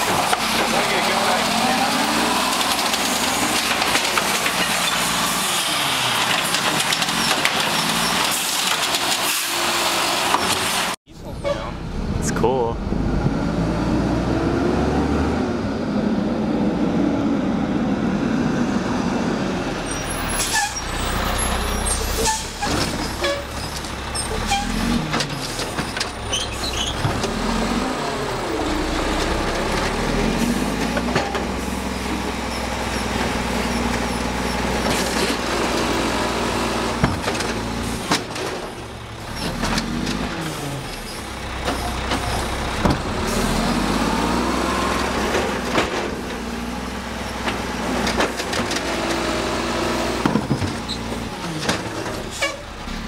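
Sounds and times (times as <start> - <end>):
garbage truck diesel engine revving: 0.0 - 11.0, 11.7 - 53.0.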